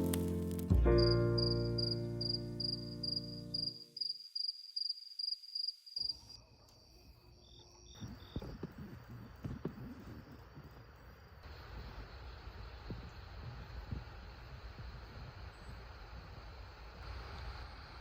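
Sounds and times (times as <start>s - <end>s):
cricket chirping: 0.9s - 17.0s.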